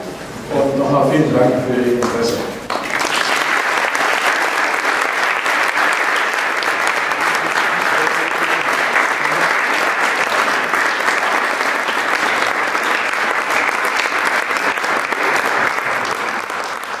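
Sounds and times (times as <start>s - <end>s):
audience applauding: 2.6s - 17.0s.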